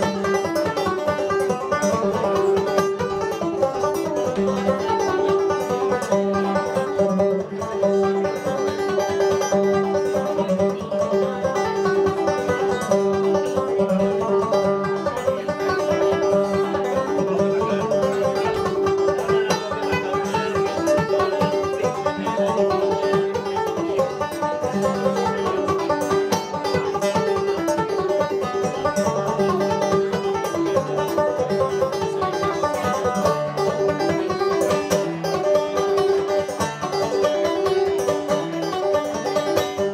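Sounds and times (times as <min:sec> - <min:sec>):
banjo playing: 0:00.0 - 0:39.9.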